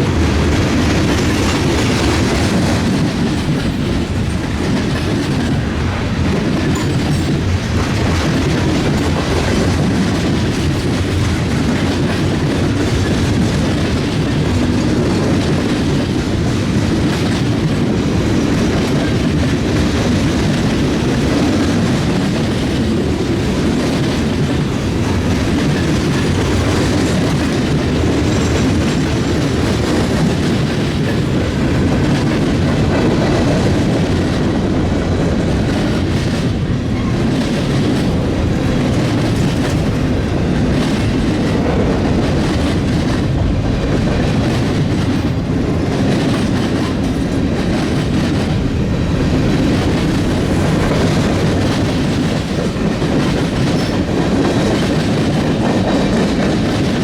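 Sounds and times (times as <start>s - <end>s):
train wheels rumbling and clicking: 0.0s - 57.0s.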